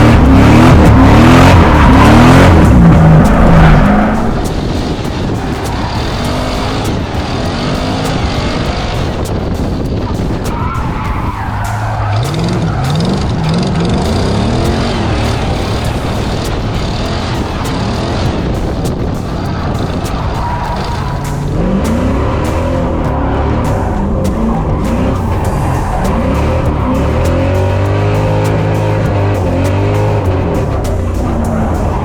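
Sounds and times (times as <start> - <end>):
car engine revving: 0.0 - 32.0
tyres skidding: 0.0 - 32.0.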